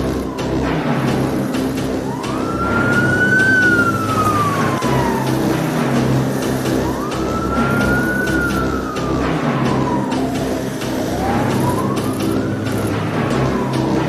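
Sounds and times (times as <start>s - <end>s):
police siren wailing: 0.0s - 14.0s
vehicle engines: 0.0s - 14.0s.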